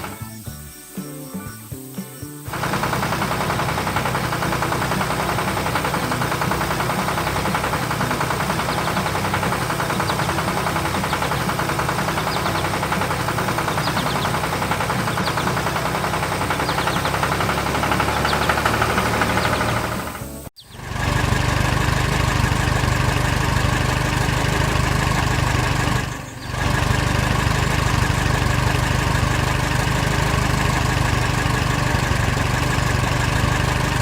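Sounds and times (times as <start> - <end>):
engine chugging: 0.8 - 34.0.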